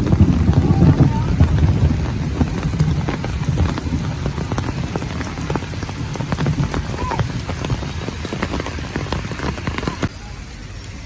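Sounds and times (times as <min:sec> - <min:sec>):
low rumble: 0:00.0 - 0:11.0
rain drops pattering: 0:00.0 - 0:11.0.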